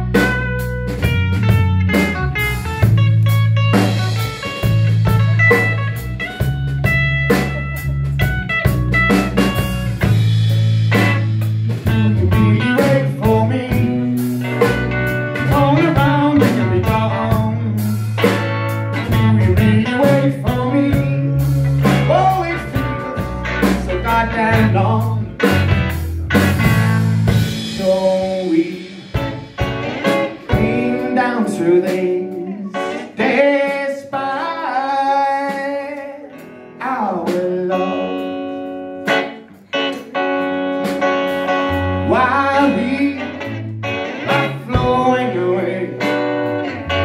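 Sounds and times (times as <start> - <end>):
electric guitar bending lines: 0.0 - 33.9, 36.3 - 47.0
bass line: 0.0 - 35.7, 36.8 - 47.0
blues-rock band playing: 0.0 - 47.0.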